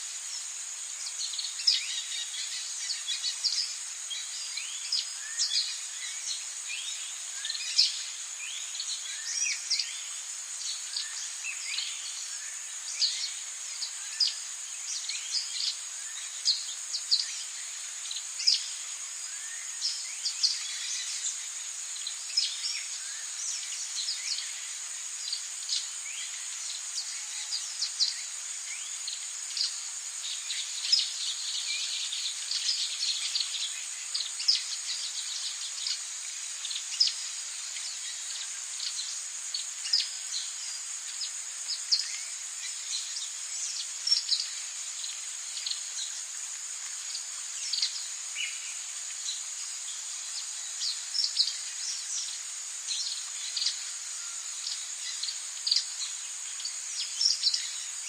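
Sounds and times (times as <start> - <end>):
high-pitched insect drone: 0.1 - 58.0.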